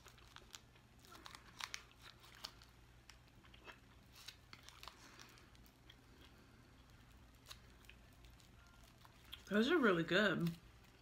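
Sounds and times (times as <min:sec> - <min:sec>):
person chewing candy: 0:00.0 - 0:09.5.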